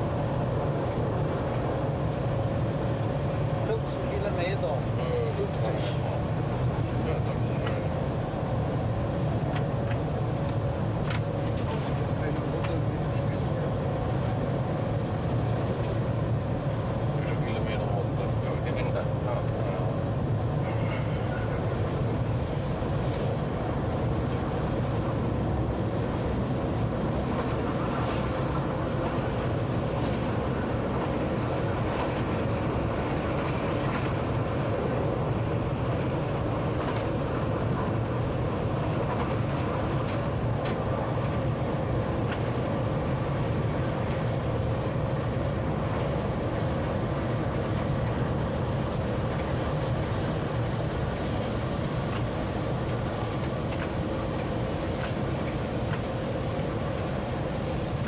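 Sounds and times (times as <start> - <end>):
train rumbling along track: 0.0 - 58.0.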